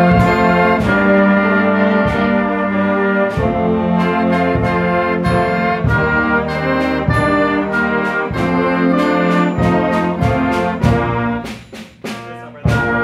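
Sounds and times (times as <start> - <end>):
concert band playing: 0.0 - 13.0.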